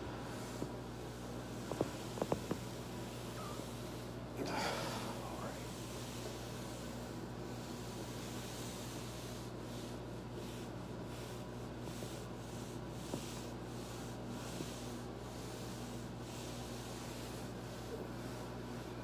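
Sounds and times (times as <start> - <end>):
foam roller rubbing on clothing: 0.0 - 19.0
low electrical hum: 0.0 - 19.0.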